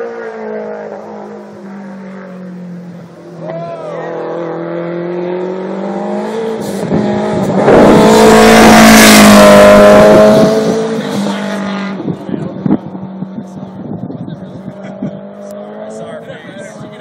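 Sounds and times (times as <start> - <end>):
race car engine passing: 0.0 - 17.0.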